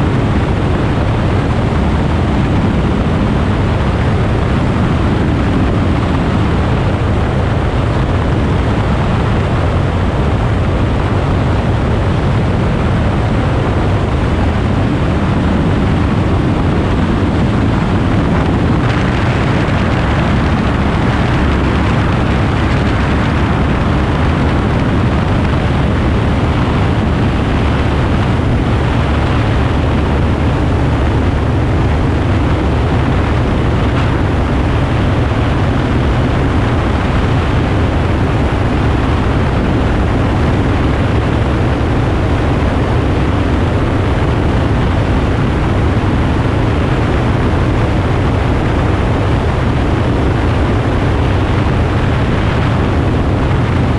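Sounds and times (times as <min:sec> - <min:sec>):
airplane engine and propeller drone: 0:00.0 - 0:53.9
wind on microphone: 0:00.0 - 0:53.9.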